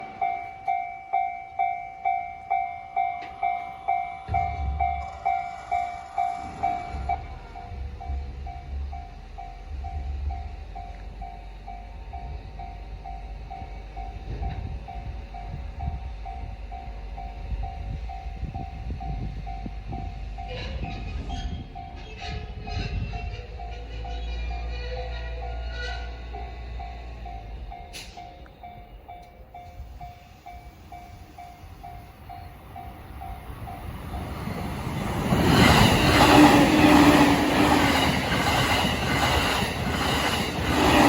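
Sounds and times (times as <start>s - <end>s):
train rumbling: 0.0s - 41.0s.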